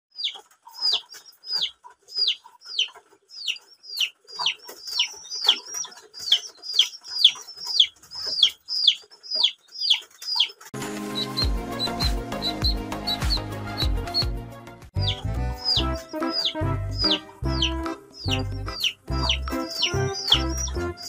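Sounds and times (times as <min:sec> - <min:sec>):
ducklings peeping: 0:00.1 - 0:14.3, 0:15.0 - 0:21.0.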